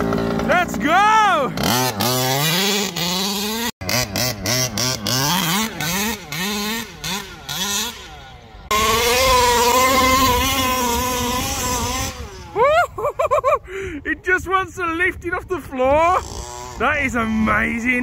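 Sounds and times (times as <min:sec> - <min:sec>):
two-stroke engine revving: 0:00.0 - 0:12.7, 0:15.8 - 0:18.0.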